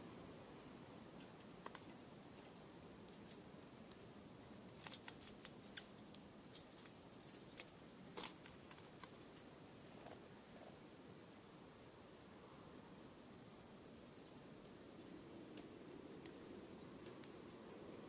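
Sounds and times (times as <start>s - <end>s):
low steady hiss: 0.0s - 18.0s.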